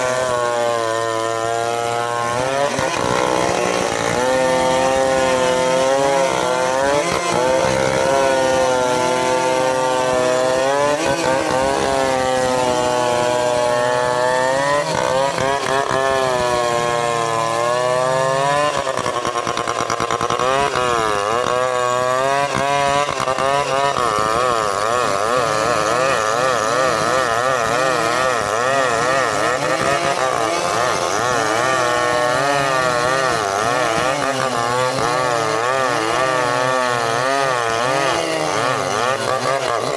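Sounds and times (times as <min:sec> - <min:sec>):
chainsaws cutting wood: 0:00.0 - 0:39.9.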